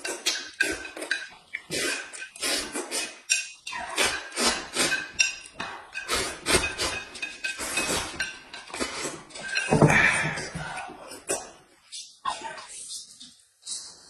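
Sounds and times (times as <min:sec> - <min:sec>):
noisy eating noises: 0:00.0 - 0:14.0.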